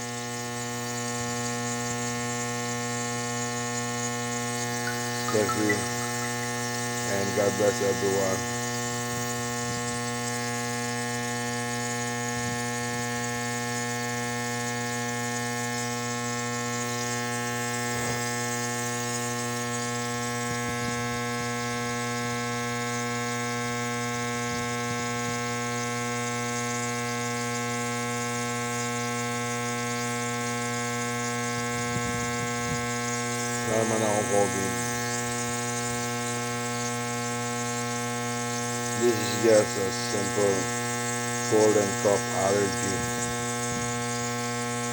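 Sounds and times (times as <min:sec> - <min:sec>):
nebulizer buzzing hum: 0:00.0 - 0:44.9.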